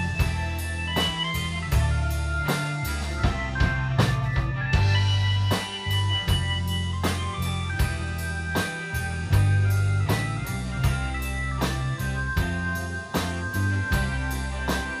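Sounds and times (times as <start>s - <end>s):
bass line: 0.0s - 15.0s
drum kit beat: 0.0s - 15.0s
electric guitar long notes: 0.0s - 15.0s.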